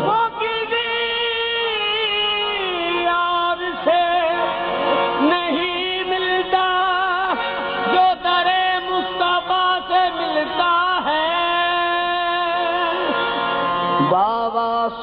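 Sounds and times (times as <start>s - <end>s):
harmonium tones: 0.0s - 15.0s.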